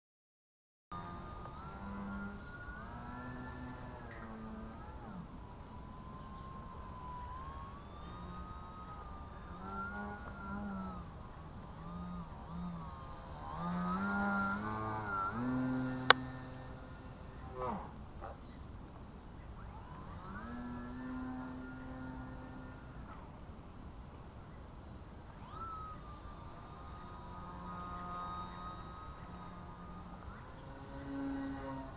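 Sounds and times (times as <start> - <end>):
electric motor propeller whining: 1.0 - 31.9.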